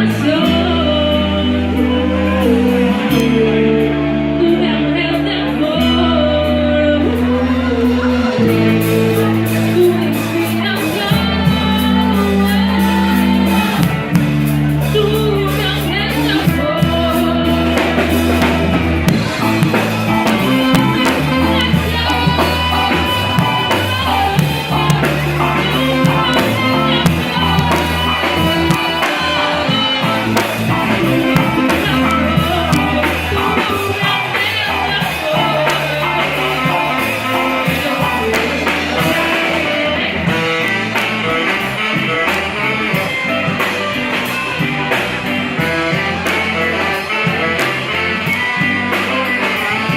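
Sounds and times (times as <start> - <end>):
person singing: 0.0 - 44.4
rock band playing live: 0.0 - 49.9.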